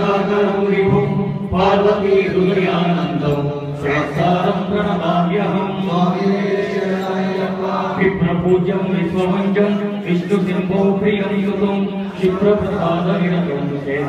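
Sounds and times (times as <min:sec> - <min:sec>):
voices chanting mantra: 0:00.0 - 0:14.0.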